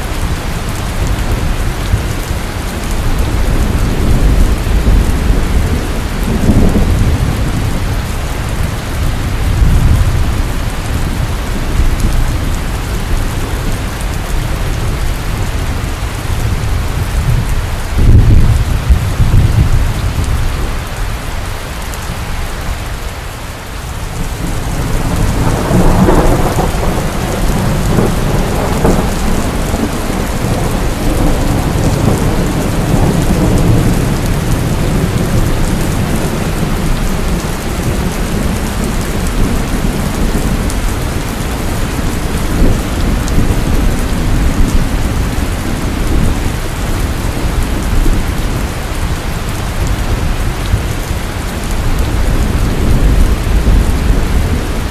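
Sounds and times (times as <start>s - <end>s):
thunder rumbling: 0.0s - 22.8s, 23.8s - 54.9s
heavy rain pouring: 0.0s - 54.9s.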